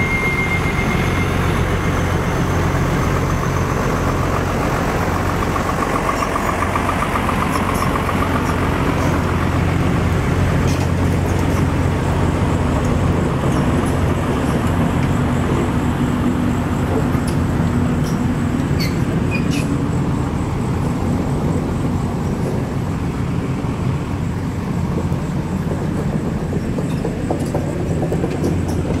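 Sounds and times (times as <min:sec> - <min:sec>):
excavator diesel engine rumbling: 0:00.0 - 0:29.0.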